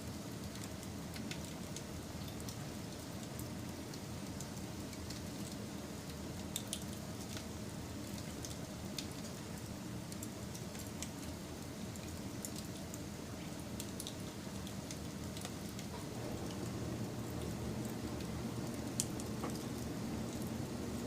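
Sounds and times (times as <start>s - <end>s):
wood fire crackling and popping: 0.5s - 7.5s, 8.2s - 13.0s, 13.8s - 21.0s.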